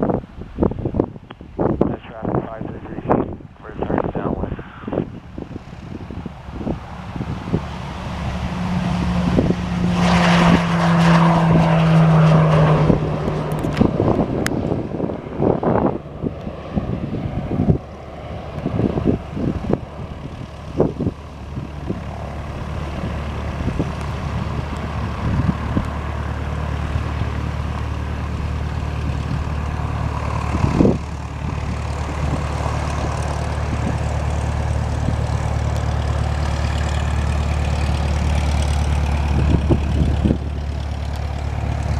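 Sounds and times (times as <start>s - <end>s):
turboprop engine drone: 0.0s - 41.9s
wind buffeting microphone: 0.0s - 41.9s.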